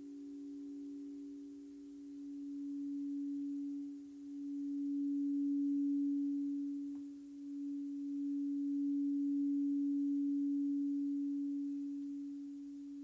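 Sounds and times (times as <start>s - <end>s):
low meditation drone: 0.0s - 13.0s.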